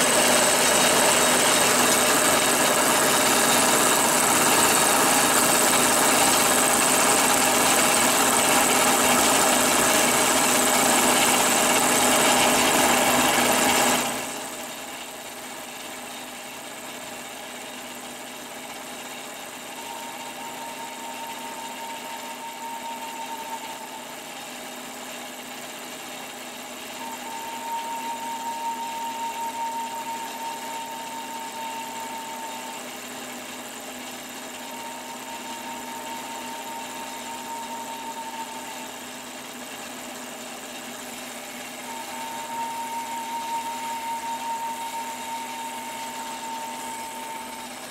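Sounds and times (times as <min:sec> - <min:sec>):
boat lift engine running: 0:00.0 - 0:47.9.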